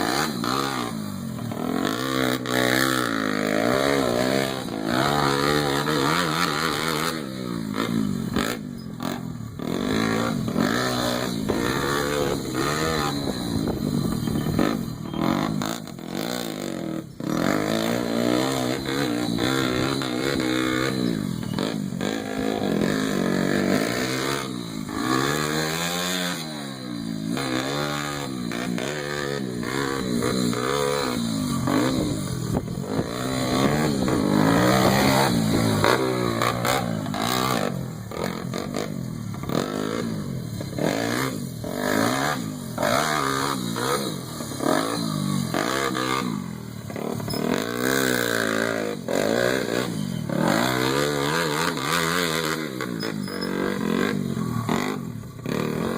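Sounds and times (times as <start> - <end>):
pit bike engine revving: 0.0 - 55.9.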